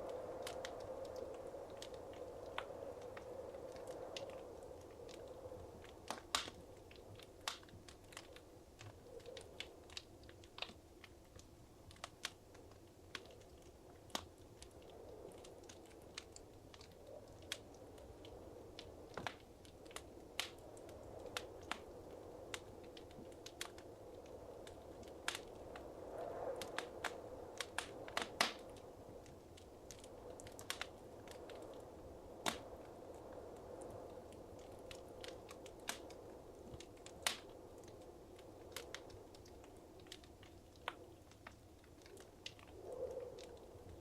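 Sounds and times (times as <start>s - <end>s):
soft hiss of flame: 0.0s - 44.0s
wood fire crackling and popping: 0.0s - 44.0s.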